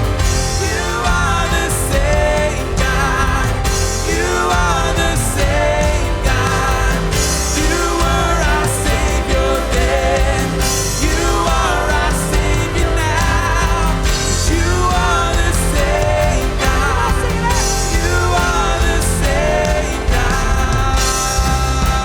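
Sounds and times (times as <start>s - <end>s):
person singing: 0.0s - 22.0s
worship band playing: 0.0s - 22.0s.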